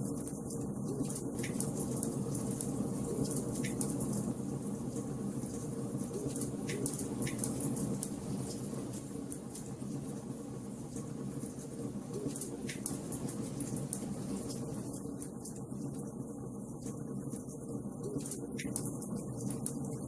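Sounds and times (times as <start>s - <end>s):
fire crackling and popping: 0.0s - 16.2s.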